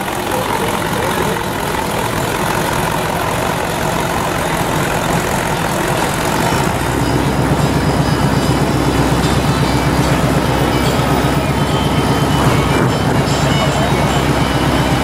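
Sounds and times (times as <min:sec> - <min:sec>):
car engines idling: 0:00.0 - 0:15.0
deep pulsing exhaust rumble: 0:00.0 - 0:15.0.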